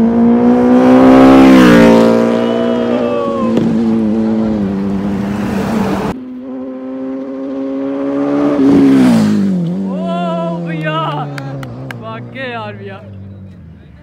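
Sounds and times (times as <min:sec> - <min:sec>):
motorcycle engine revving: 0:00.0 - 0:13.8.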